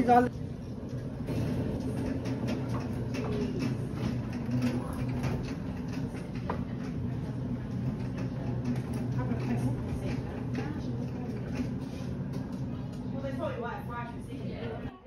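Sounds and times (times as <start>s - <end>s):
wheels and frame rattling: 0.0s - 13.4s
hospital bed rolling: 0.0s - 14.9s.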